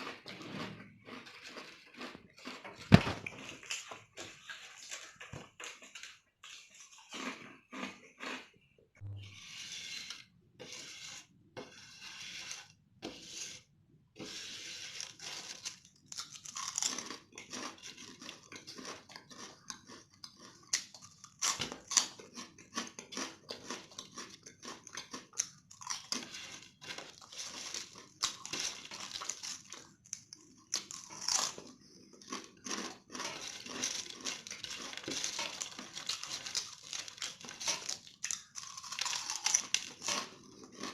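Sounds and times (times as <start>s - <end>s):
crunching potato chips: 0.0s - 8.5s, 14.9s - 40.9s.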